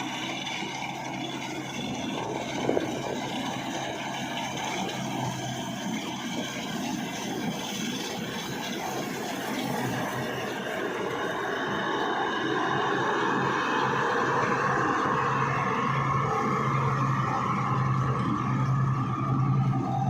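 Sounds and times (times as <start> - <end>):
combine harvester running: 0.0 - 20.0.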